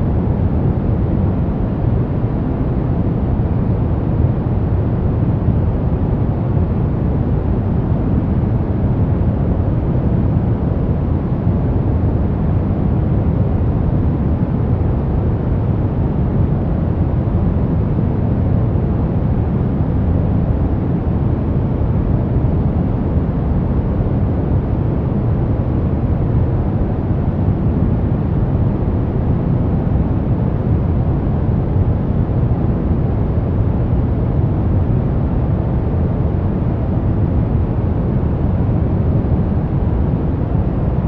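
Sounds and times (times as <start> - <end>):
deep rumbling brown noise: 0.0 - 41.0.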